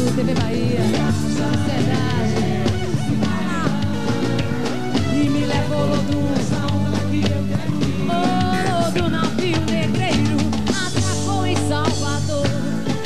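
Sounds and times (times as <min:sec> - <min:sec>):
band with driving drum beat: 0:00.0 - 0:13.0
woman singing into a microphone: 0:00.0 - 0:13.0.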